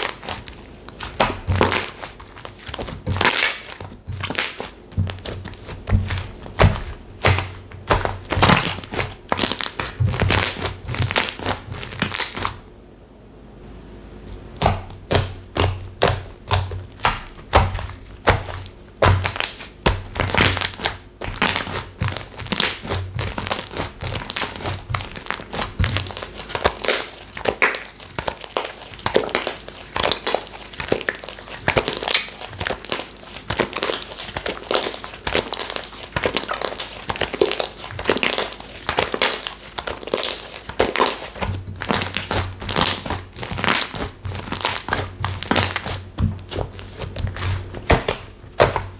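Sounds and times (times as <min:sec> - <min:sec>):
slime crackling and popping: 0:00.0 - 0:12.6, 0:14.6 - 0:48.9.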